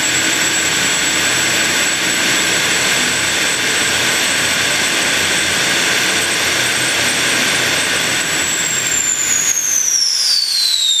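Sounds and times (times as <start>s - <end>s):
high compressor whine: 0.0s - 11.0s
turbojet engine roaring: 0.0s - 11.0s.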